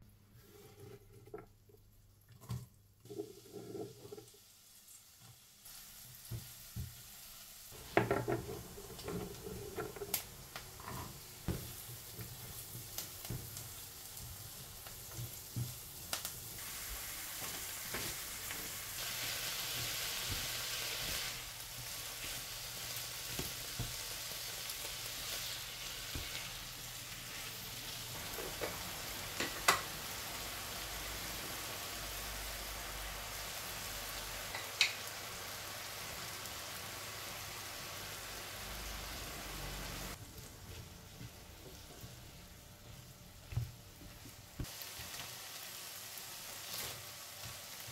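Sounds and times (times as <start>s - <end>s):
food sizzling in a pan: 3.0s - 47.9s.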